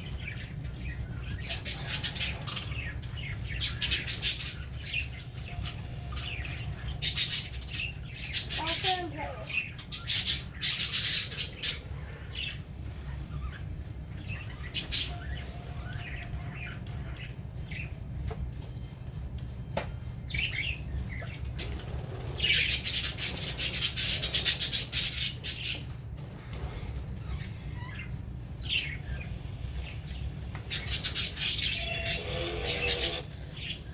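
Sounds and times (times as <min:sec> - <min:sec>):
budgerigars chirping and chattering: 0:00.0 - 0:18.1, 0:20.0 - 0:33.9.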